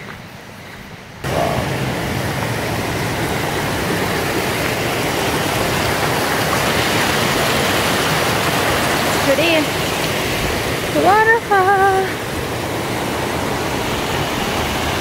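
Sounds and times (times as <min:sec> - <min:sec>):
creek rushing over rocks: 0:01.2 - 0:15.0.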